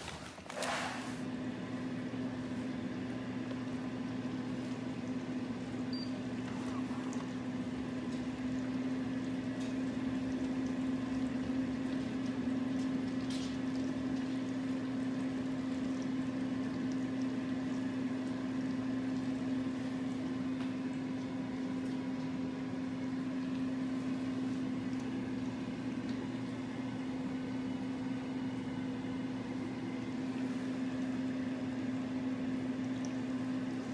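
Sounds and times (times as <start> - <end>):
espresso machine pump humming: 0.0 - 33.9
liquid flowing and gurgling: 2.5 - 33.9.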